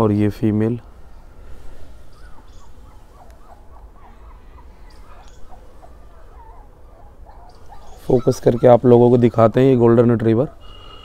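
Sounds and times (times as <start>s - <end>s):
puppies whimpering: 2.1s - 11.0s.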